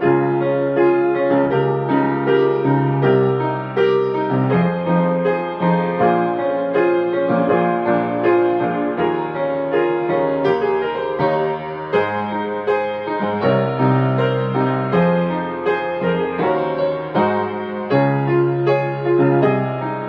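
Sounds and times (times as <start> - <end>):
solo piano chords: 0.0 - 20.0.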